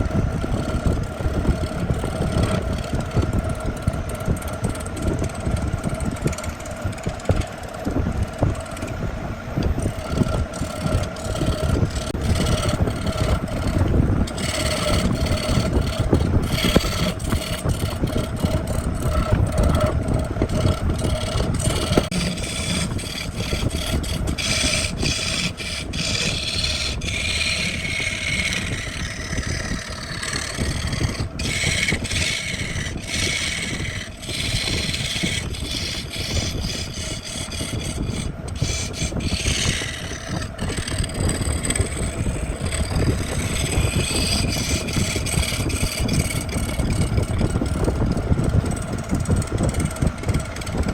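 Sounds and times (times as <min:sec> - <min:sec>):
tool scraping spinning wood: 0:00.0 - 0:50.9
wood lathe motor hum: 0:00.0 - 0:50.9.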